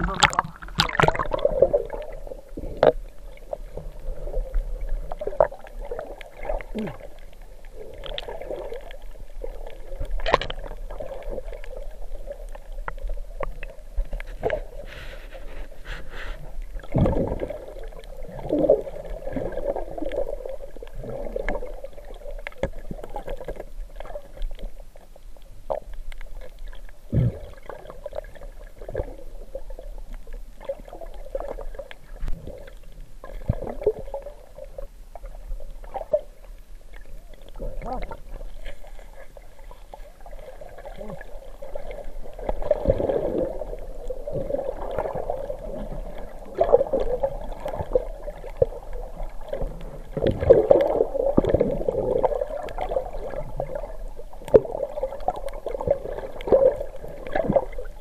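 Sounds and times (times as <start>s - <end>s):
underwater water murmur: 0.0s - 58.0s.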